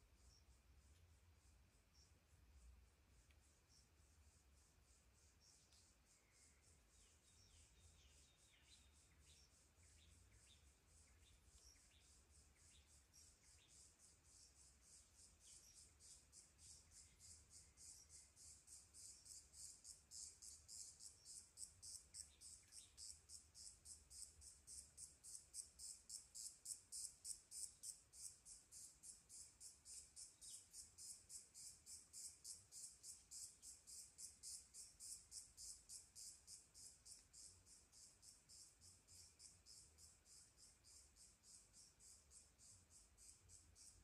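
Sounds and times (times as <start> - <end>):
high-pitched insect chirping: 3.4 - 44.0.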